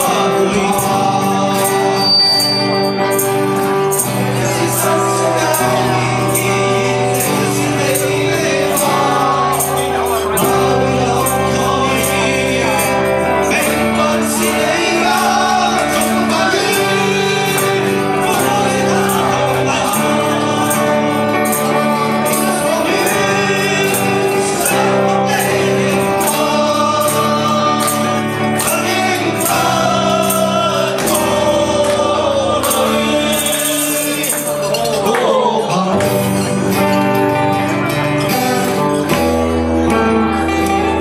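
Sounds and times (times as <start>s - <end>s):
percussion beat: 0.0s - 39.6s
acoustic and electric guitars: 0.0s - 41.0s
men singing pop-rock song: 0.0s - 41.0s.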